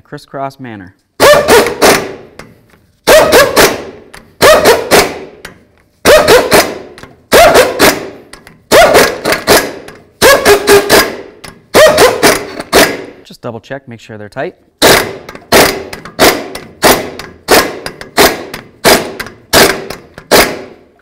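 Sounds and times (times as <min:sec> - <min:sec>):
impact wrench hammering: 0:01.2 - 0:13.2, 0:14.8 - 0:21.0.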